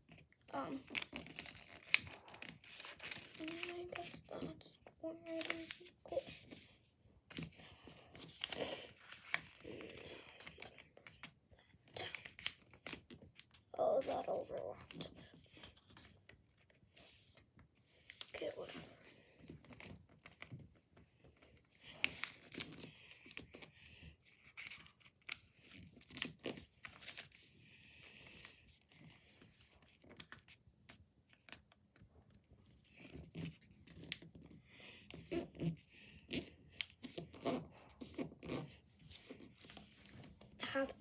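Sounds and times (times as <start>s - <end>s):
paper rustling and crinkling: 0.0s - 41.0s.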